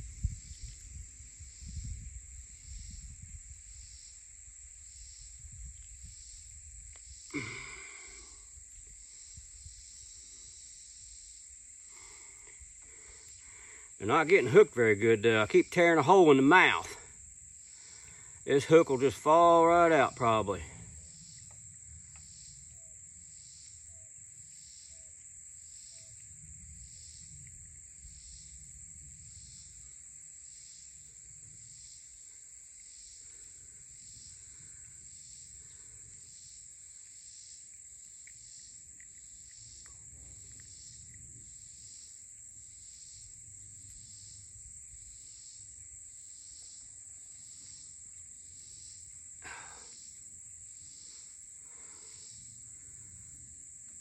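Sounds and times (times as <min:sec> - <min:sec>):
insects calling: 0:00.0 - 0:54.0.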